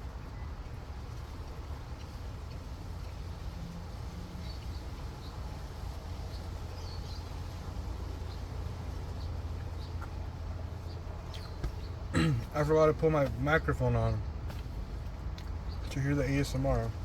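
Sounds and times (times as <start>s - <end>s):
faint eating ticks: 0.0s - 17.0s.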